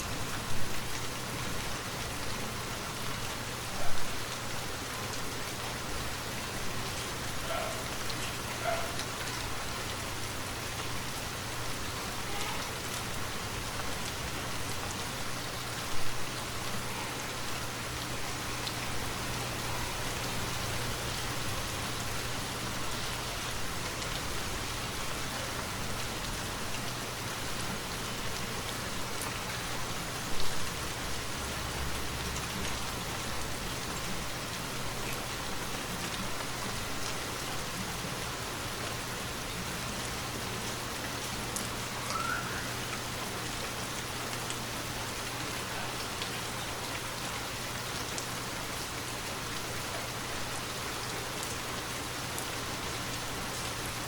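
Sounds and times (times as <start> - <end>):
rain pattering on foliage: 0.0 - 54.0.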